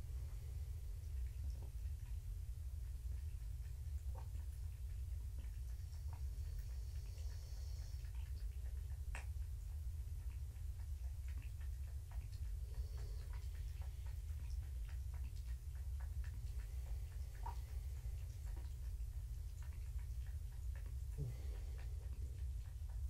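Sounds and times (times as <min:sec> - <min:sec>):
low hum: 0:00.0 - 0:23.0
small ticks and clicks: 0:00.0 - 0:23.0.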